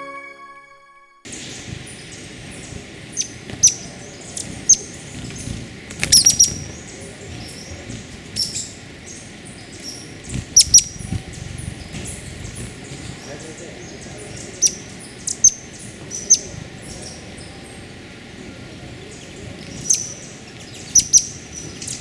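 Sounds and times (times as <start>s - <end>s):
outdoor hiss: 1.3s - 22.0s
small birds chirping: 1.3s - 22.0s.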